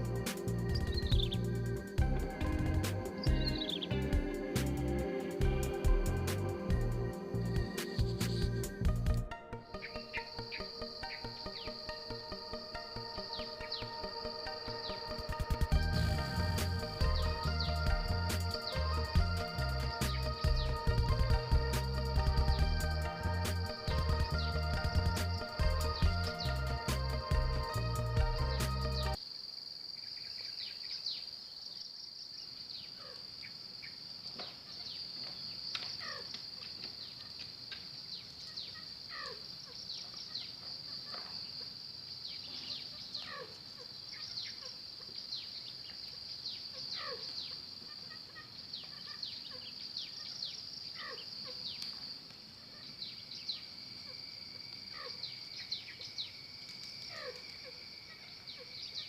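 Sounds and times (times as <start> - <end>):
high-pitched insect trilling: 0.0 - 29.2, 38.1 - 59.0
low steady insect-like tone: 0.0 - 59.0.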